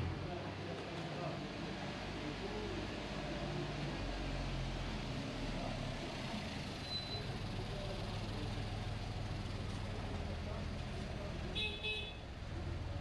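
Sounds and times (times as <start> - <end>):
traffic engine rumble: 0.0 - 11.6.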